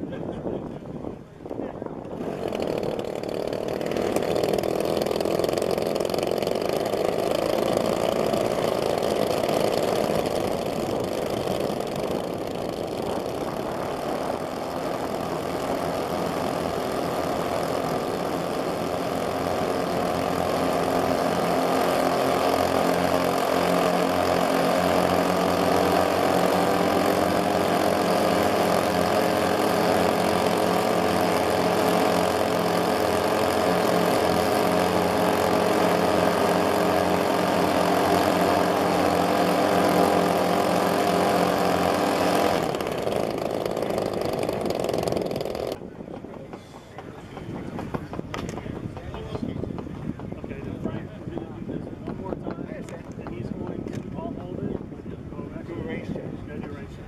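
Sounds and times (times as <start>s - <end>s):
model aircraft engines running: 0.0s - 57.0s.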